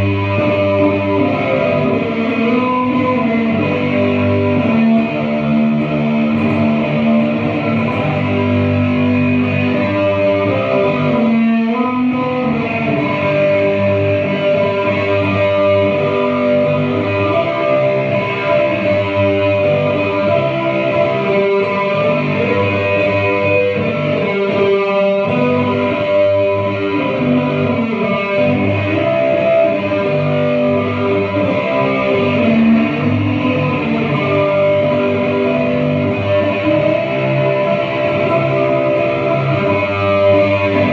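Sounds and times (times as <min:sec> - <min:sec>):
guitar music: 0:00.0 - 0:40.9.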